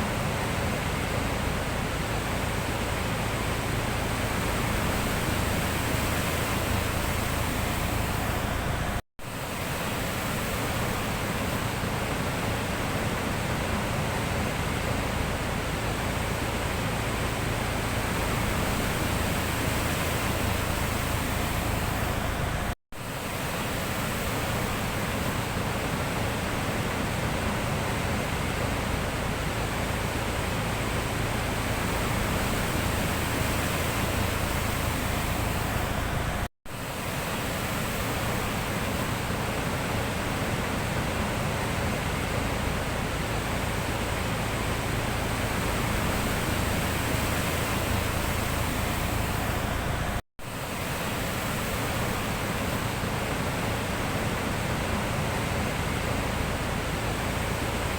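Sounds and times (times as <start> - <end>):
sea surf roaring: 0.0 - 57.9.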